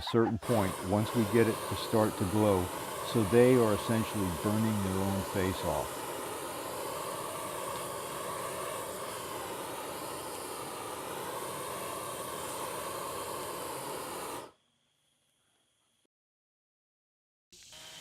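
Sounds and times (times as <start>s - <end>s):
torch flame hissing: 0.1s - 14.6s.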